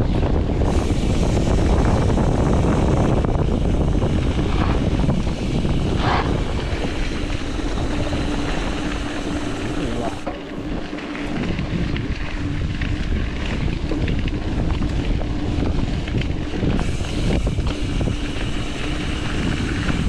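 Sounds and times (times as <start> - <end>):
bike tyre rumble: 0.0 - 20.0
wind buffeting microphone: 0.0 - 20.0.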